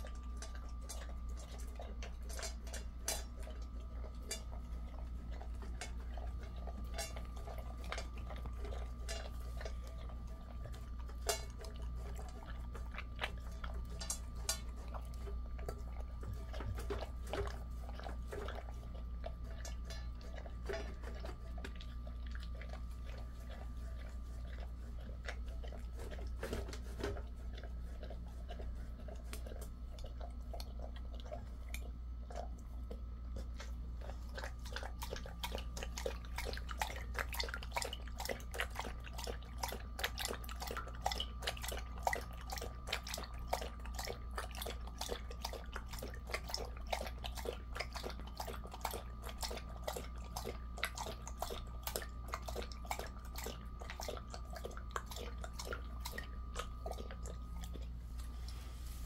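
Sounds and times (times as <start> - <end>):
dog eating from steel bowl: 0.0 - 59.0
dog lapping water: 0.0 - 59.0.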